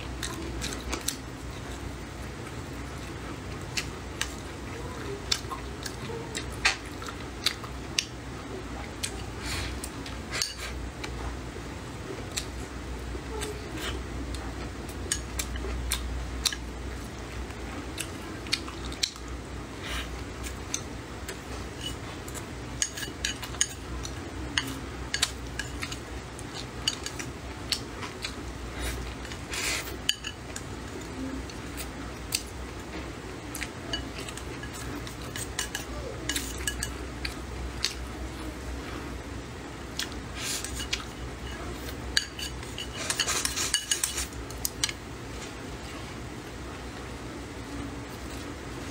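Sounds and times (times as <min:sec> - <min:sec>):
person chewing: 0:00.0 - 0:08.4, 0:13.3 - 0:39.2, 0:39.8 - 0:46.2.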